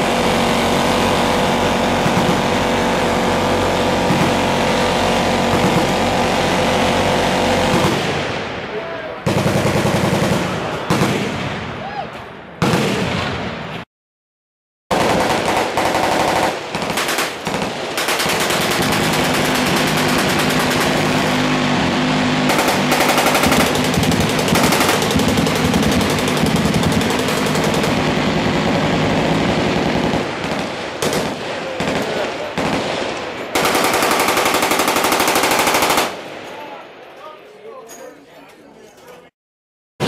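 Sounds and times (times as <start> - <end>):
rapid machine-gun fire: 0.0 - 8.4, 9.2 - 11.6, 12.6 - 13.4, 14.9 - 36.3.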